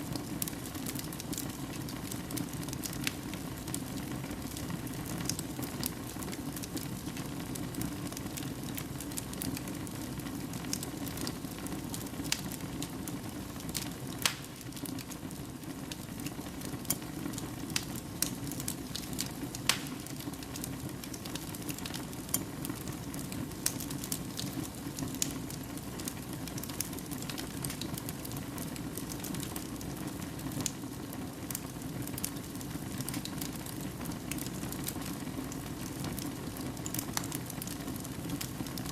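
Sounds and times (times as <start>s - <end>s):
fire crackling and hissing: 0.0s - 38.9s.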